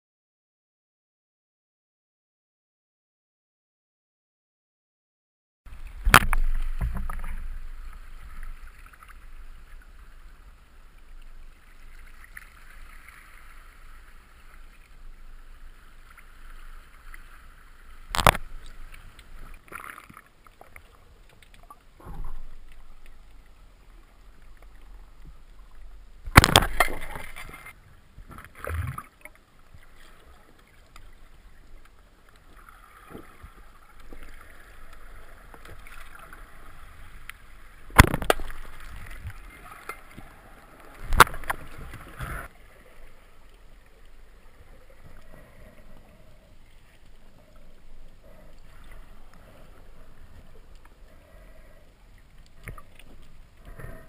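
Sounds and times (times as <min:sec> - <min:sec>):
muffled underwater water wash: 0:05.7 - 0:54.0.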